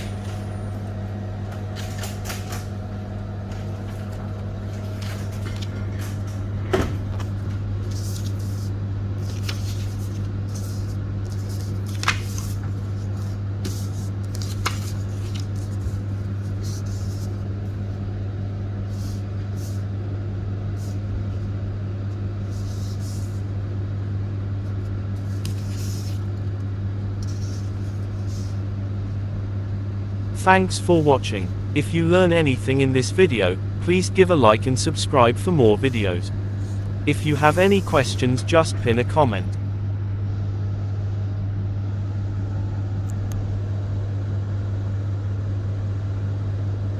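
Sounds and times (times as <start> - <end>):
low machine hum: 0.0 - 46.9.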